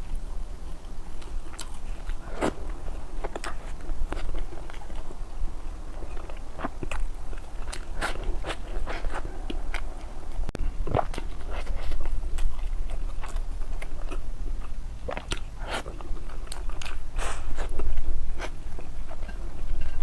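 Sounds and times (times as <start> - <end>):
person chewing food: 0.1 - 20.0.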